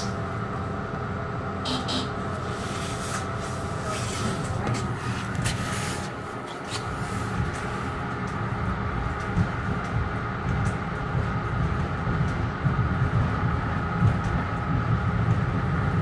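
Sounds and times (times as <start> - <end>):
train rumble from on board: 0.0 - 16.0.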